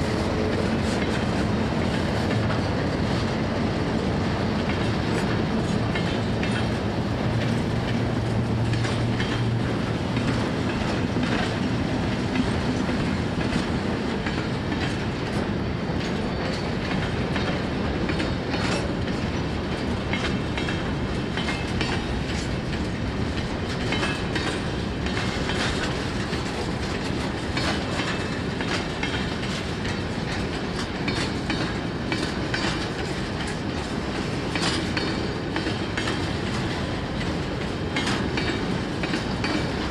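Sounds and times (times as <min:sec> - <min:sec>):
locomotive engine hum: 0:00.0 - 0:39.9
train wheels clicking over joints: 0:00.0 - 0:39.9.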